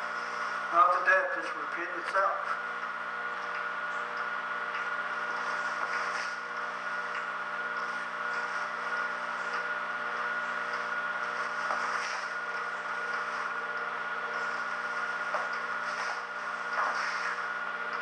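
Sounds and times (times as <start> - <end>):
background hum and hiss: 0.0 - 18.0
thin high whine: 0.0 - 18.0.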